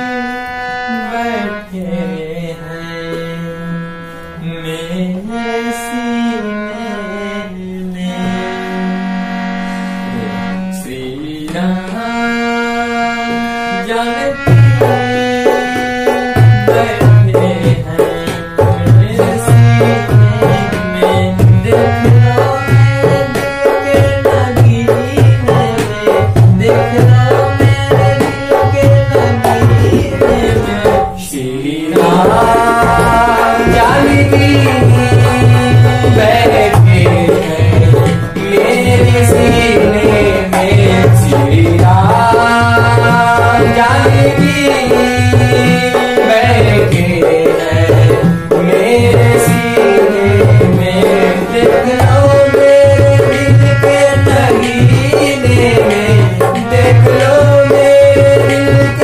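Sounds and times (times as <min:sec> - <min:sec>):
harmonium chords: 0:00.0 - 0:59.0.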